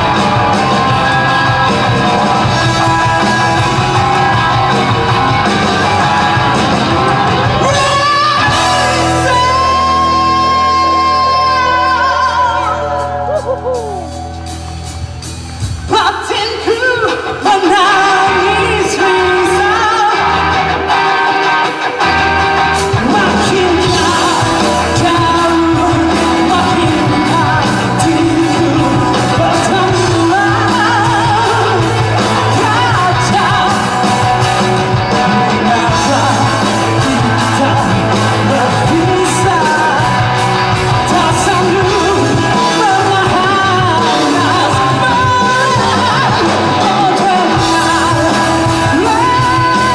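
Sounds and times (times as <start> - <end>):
person singing and shouting: 0.0 - 14.6, 15.7 - 21.5, 22.7 - 49.9
live rock band playing: 0.0 - 49.9.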